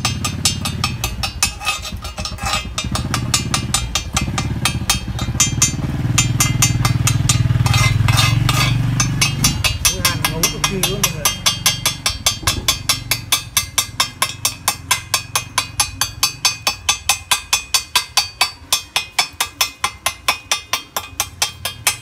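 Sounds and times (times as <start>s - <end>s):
chipping hammer tapping metal: 0.0s - 22.0s.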